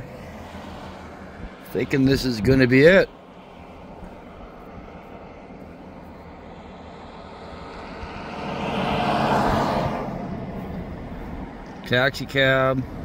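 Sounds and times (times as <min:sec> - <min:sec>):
vehicle passing by: 0:00.0 - 0:11.8.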